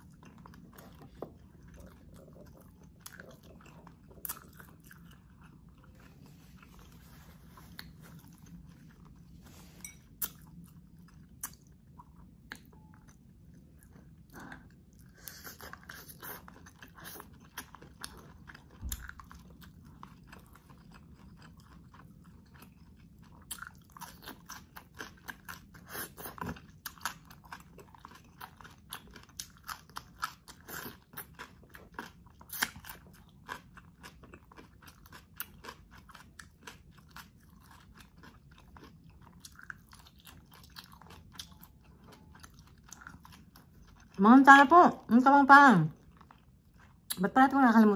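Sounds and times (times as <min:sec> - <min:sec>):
chewing and crunching food: 0:00.0 - 0:47.9.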